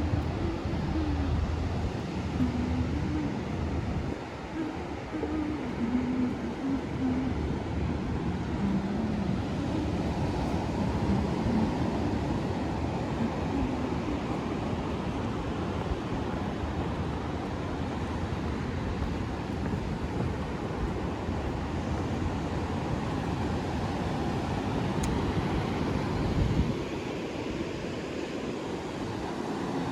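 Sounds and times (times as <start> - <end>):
ocean surf washing on beach: 0.0 - 29.9
wind on microphone: 0.0 - 29.9.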